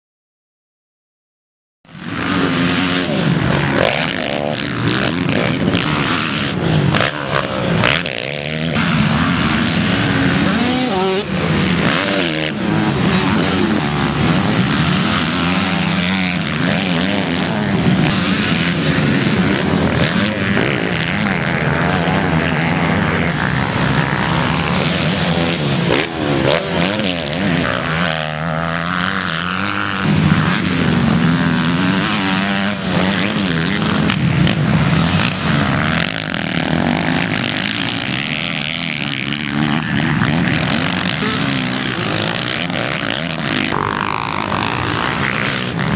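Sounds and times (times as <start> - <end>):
motocross bike engines revving: 1.9 - 45.9.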